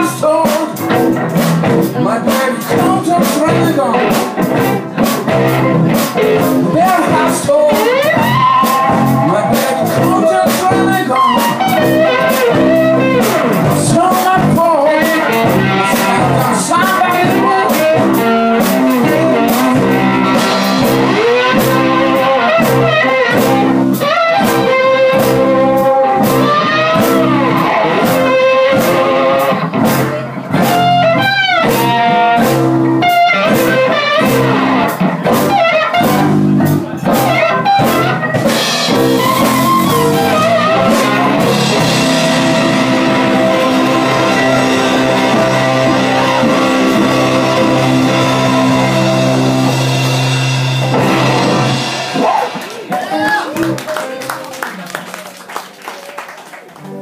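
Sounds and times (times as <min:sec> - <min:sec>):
bending lead guitar line: 0:00.0 - 0:55.2
live blues band playing: 0:00.0 - 0:55.9, 0:56.7 - 0:57.0.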